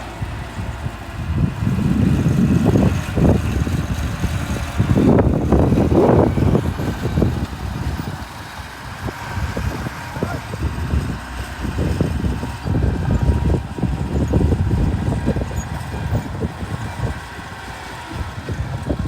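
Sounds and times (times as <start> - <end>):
earthmoving machine diesel engine: 0.0 - 19.0.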